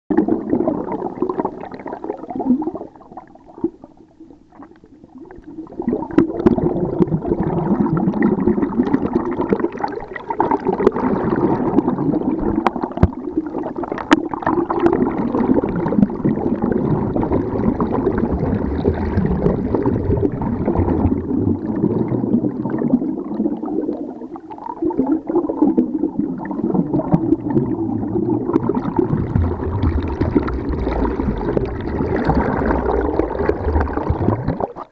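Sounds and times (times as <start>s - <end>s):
underwater stream gurgle: 0.1s - 34.9s.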